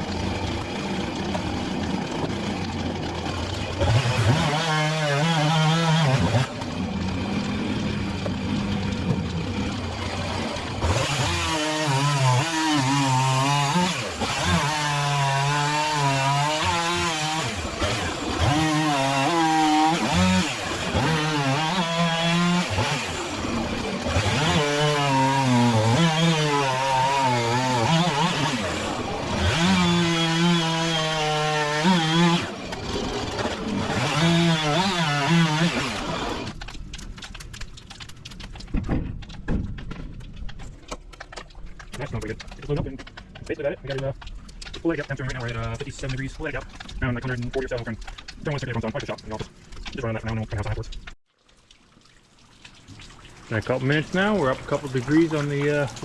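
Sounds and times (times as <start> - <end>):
chainsaw cutting logs: 0.0 - 50.3, 53.5 - 56.0.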